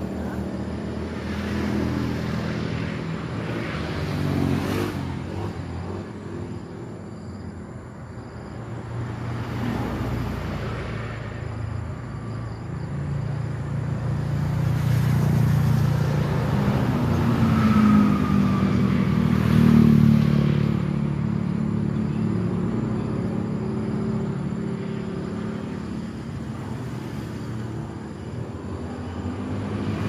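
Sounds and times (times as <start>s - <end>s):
road noise: 0.0s - 30.0s
vehicle engine: 0.0s - 30.0s.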